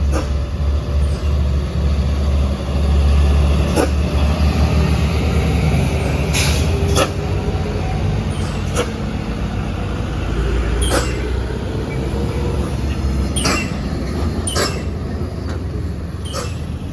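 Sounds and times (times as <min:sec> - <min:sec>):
diesel truck engine labouring: 0:00.0 - 0:16.9.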